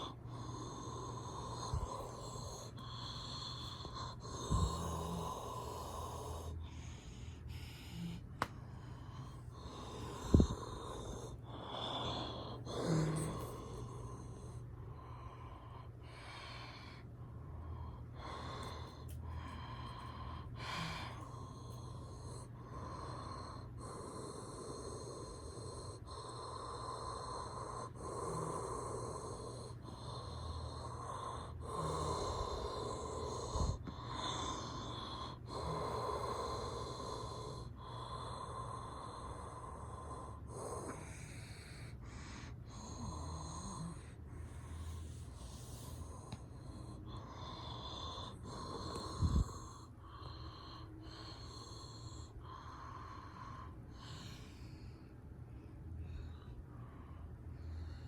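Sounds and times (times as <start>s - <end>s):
air conditioner fan hum: 0.0s - 58.0s.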